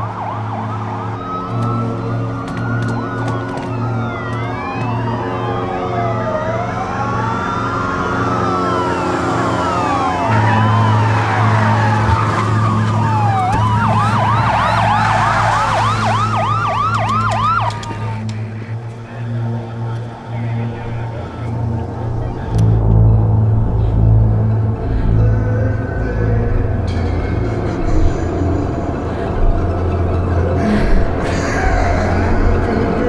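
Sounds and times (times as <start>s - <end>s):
sirens wailing and yelping: 0.0s - 33.0s
steady low drone: 0.0s - 33.0s.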